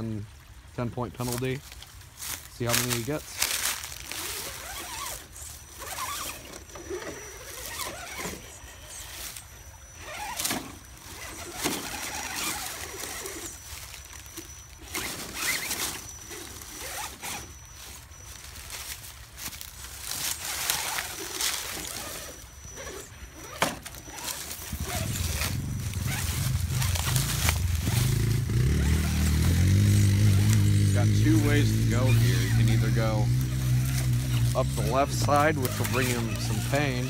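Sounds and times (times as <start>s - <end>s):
dry leaves crunching: 1.2s - 37.0s
faint electric motor whine: 1.7s - 37.0s.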